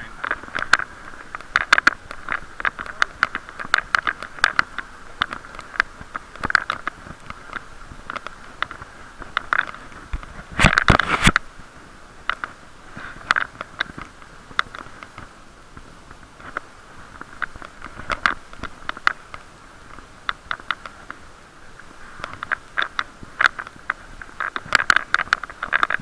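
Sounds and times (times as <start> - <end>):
crackling and clicking: 0.0 - 11.5, 12.2 - 26.0
muffled steady hiss: 0.0 - 26.0.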